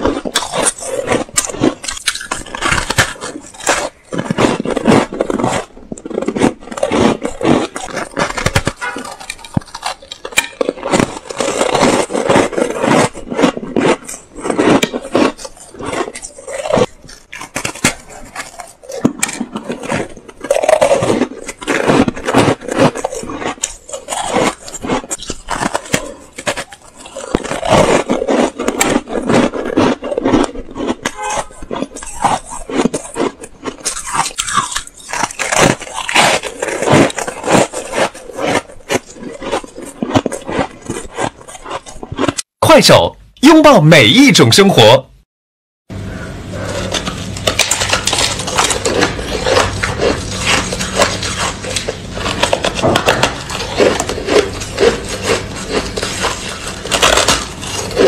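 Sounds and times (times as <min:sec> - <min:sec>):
crunching shaved ice: 0:00.0 - 0:45.0, 0:45.9 - 0:58.0.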